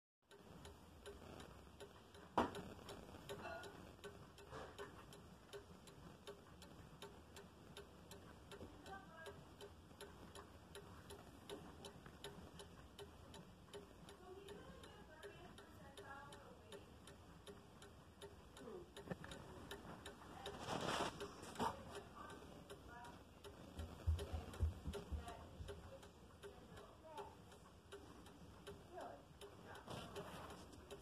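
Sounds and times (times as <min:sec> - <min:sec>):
pendulum clock ticking: 0:00.3 - 0:31.0.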